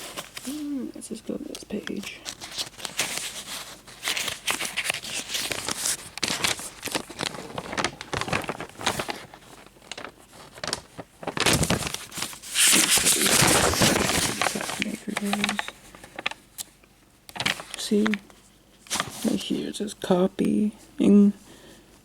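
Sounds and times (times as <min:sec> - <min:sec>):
paper pages rustling: 0:00.0 - 0:00.6, 0:01.5 - 0:16.7, 0:17.3 - 0:19.8.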